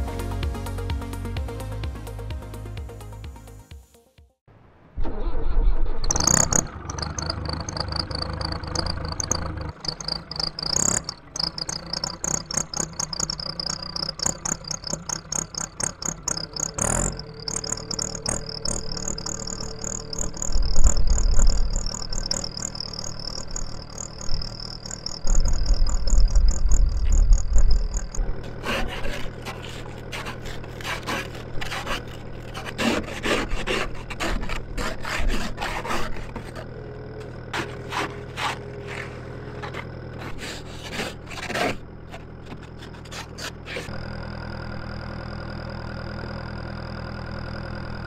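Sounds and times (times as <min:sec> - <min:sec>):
tractor diesel engine idling: 0:05.0 - 0:48.0.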